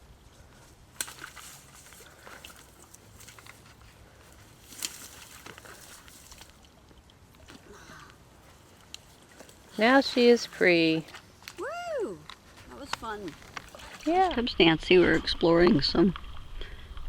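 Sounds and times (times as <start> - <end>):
kayak rustling: 0.0 - 17.0.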